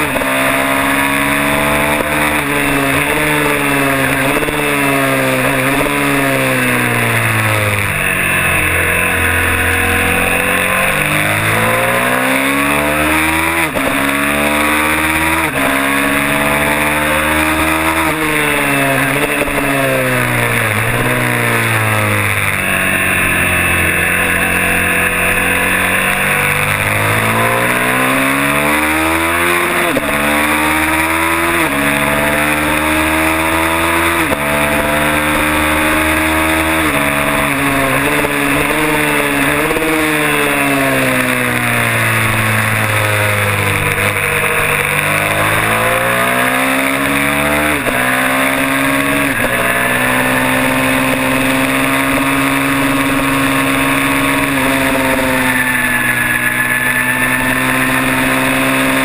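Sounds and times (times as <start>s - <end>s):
motorcycle engine at full throttle: 0.0s - 59.0s.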